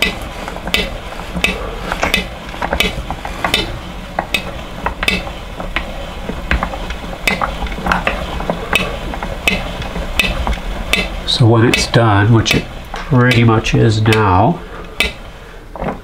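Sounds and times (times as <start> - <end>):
food strainer squishing and scraping: 0.0 - 16.0
strainer crank clicking: 0.0 - 16.0.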